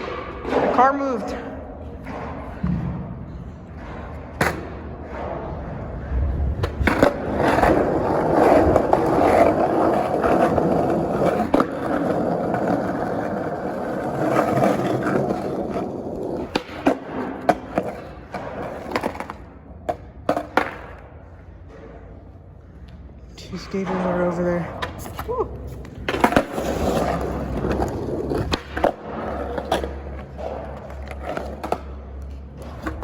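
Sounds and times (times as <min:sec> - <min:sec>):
skateboard clacks and knocks: 0:00.0 - 0:05.5, 0:06.6 - 0:22.1, 0:23.6 - 0:33.0
skateboard wheels rolling on concrete: 0:00.0 - 0:33.0.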